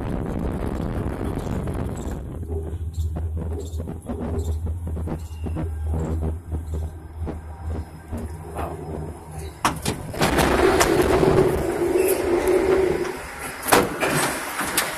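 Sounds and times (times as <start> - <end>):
mechanical rushing with low hum: 0.0 - 13.4.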